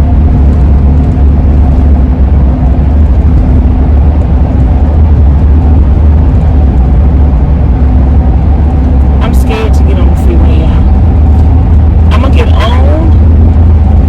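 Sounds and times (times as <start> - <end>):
road and engine rumble: 0.0 - 14.0
roof rack wind howl: 0.0 - 14.0.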